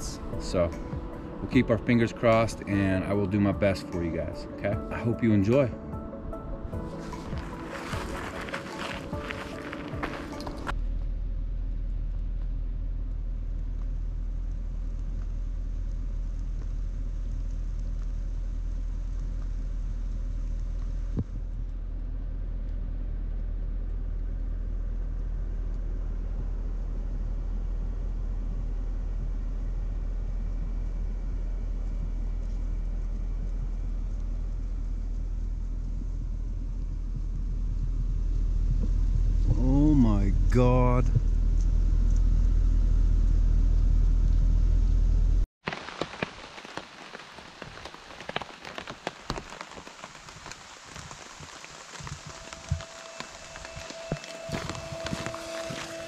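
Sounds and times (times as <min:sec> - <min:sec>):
car rumble on wet road: 0:06.9 - 0:56.0.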